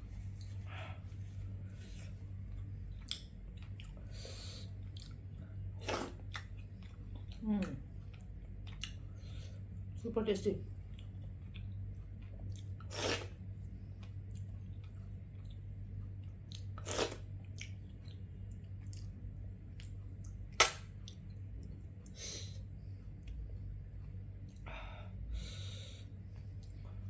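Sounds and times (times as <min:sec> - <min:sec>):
steady low hum: 0:00.0 - 0:27.0
person chewing food: 0:00.1 - 0:09.8, 0:10.8 - 0:24.7.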